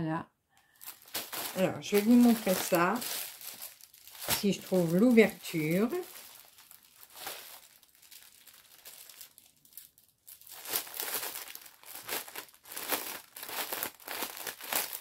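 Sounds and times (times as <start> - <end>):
plastic wrapping crinkling: 0.6 - 15.0.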